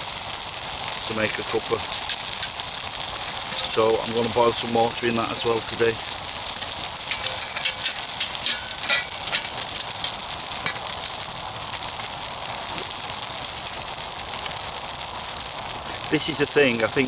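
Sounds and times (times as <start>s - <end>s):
burgers sizzling on a grill: 0.0s - 17.0s
sharp crackles and clicks: 0.0s - 17.0s.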